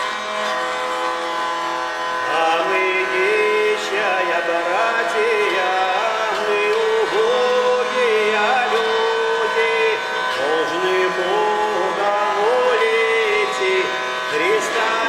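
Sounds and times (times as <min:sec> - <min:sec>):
hurdy-gurdy drone: 0:00.0 - 0:15.0
man singing: 0:02.2 - 0:15.0.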